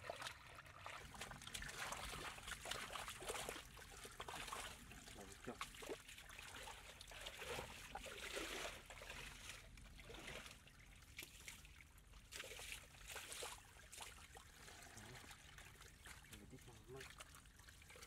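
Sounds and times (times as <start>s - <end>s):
faint water trickling: 0.0s - 18.0s.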